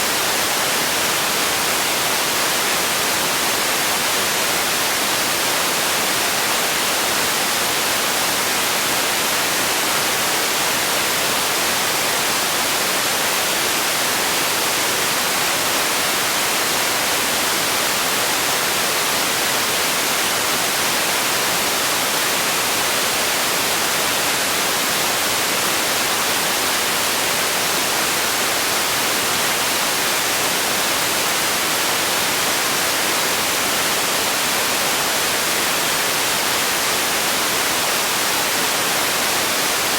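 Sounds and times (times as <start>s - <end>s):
steady noise hiss: 0.0s - 39.9s.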